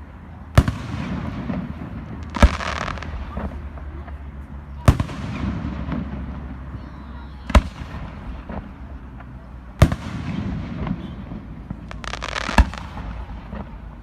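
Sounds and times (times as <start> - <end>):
firework crackling shower: 0.0 - 14.0.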